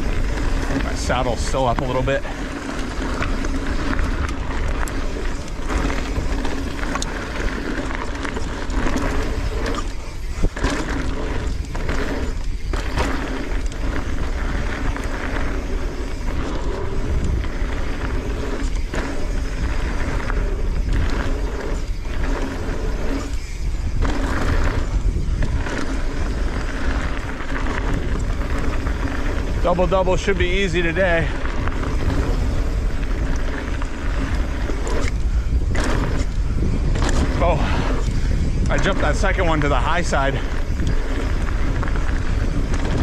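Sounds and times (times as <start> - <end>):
bike rattling: 0.0 - 43.0
tyres rolling and skidding on dirt: 0.0 - 43.0
wind rumble on microphone: 0.0 - 43.0.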